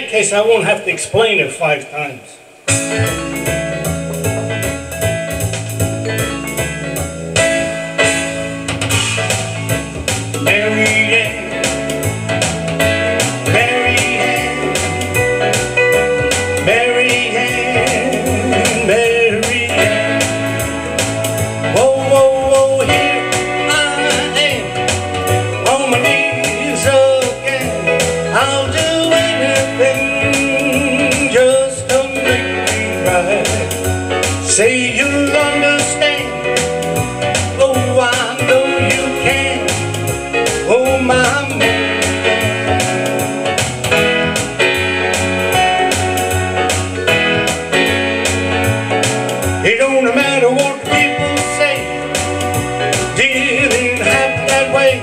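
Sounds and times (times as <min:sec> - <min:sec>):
country song on electronic keyboard: 0:00.0 - 0:55.0.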